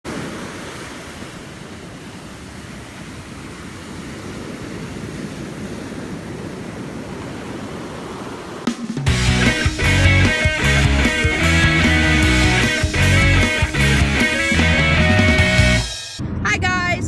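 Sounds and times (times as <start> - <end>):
ocean waves washing: 0.0 - 16.0.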